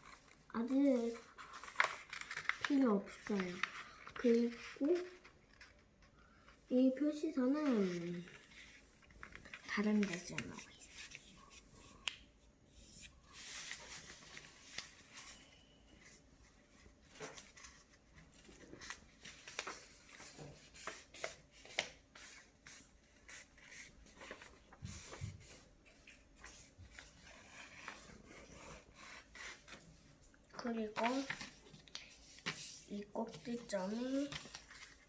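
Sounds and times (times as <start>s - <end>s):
paper being folded and creased: 0.0s - 5.9s, 7.1s - 12.2s, 12.8s - 35.0s.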